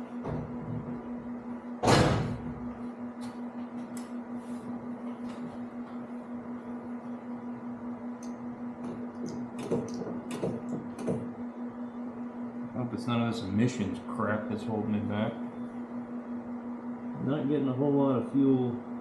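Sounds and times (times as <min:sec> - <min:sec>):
steady pulsing hum: 0:00.0 - 0:19.0.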